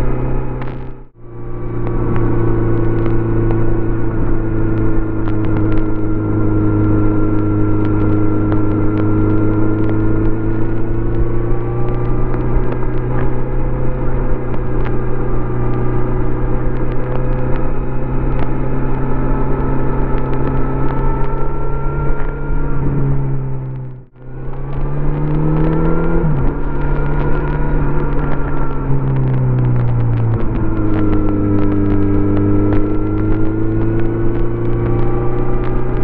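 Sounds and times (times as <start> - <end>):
microphone glitch clicks: 0.0 - 36.0
motorcycle engine running: 0.0 - 36.0.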